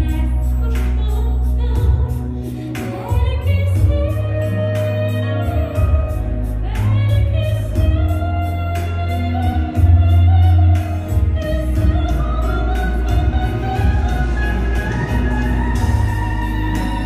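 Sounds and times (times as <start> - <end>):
amplified band music with heavy bass: 0.0 - 17.0
woman singing with vibrato: 0.0 - 17.0.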